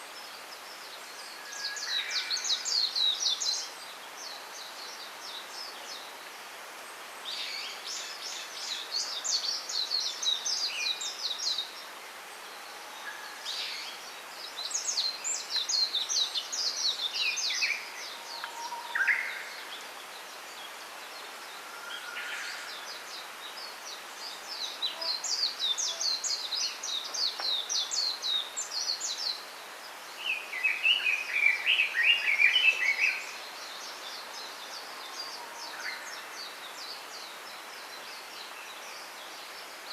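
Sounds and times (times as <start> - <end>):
outdoor background hiss: 0.0 - 39.9
small songbirds twittering: 0.0 - 39.9.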